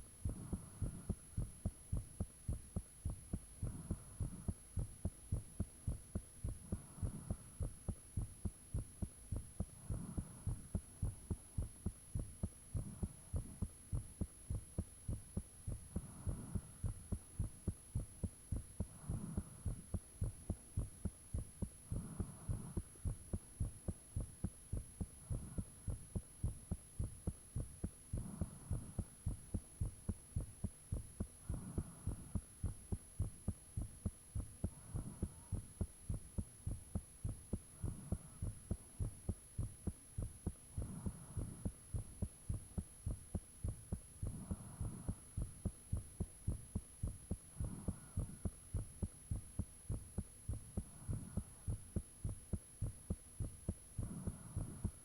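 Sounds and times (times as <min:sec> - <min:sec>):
heartbeat thumps: 0:00.0 - 0:55.0.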